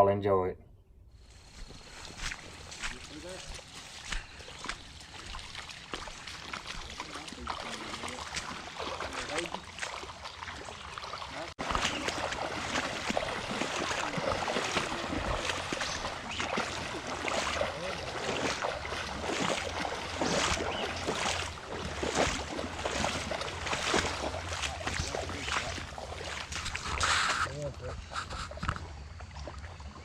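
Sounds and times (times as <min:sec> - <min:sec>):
creek water rushing and splashing: 0:01.7 - 0:30.0.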